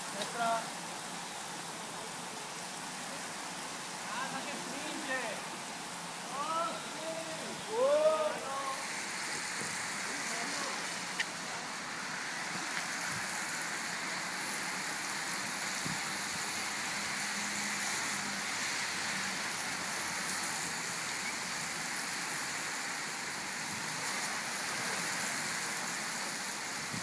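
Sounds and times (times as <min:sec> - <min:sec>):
bicycle tyres on wet road: 0:00.0 - 0:27.0
rain hissing: 0:00.0 - 0:27.0.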